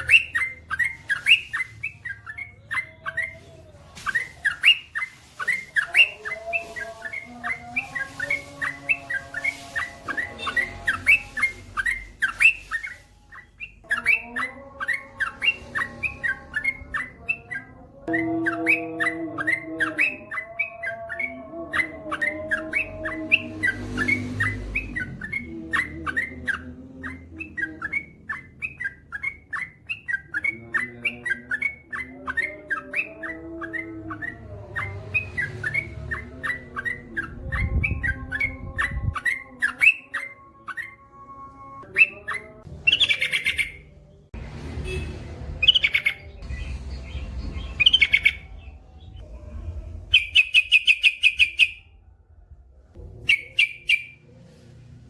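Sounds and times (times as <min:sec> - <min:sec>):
harsh bird calls: 0:00.0 - 0:52.0, 0:52.9 - 0:55.0.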